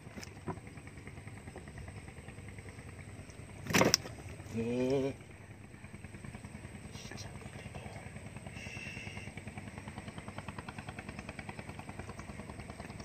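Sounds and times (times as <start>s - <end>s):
small boat engine puttering: 0.0s - 13.0s.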